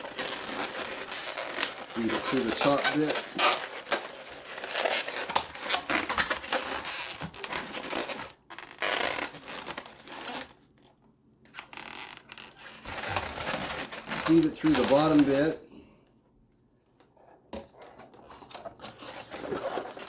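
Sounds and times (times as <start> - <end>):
balloons rubbing and crinkling: 0.0 - 10.7, 11.5 - 15.6, 17.8 - 20.0.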